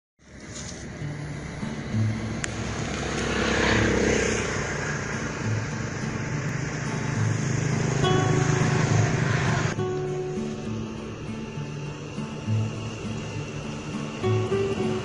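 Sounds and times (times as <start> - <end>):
vehicle engine running: 0.2 - 15.0.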